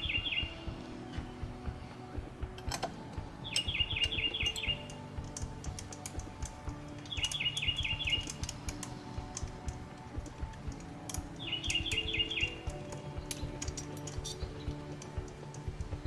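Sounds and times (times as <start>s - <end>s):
high chirping notes: 0.0s - 2.0s, 3.1s - 5.6s, 6.3s - 15.4s
light clicks: 2.5s - 16.0s.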